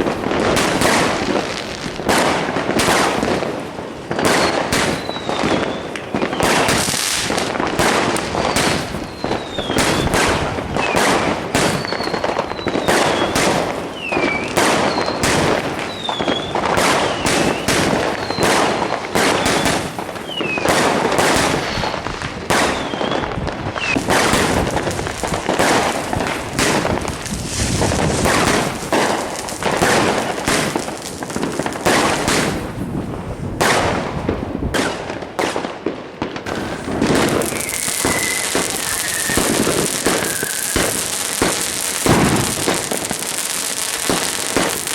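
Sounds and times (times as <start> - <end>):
fireworks bangs and crackles: 0.0 - 44.9
fireworks falling whistles: 4.1 - 33.9, 36.3 - 44.9.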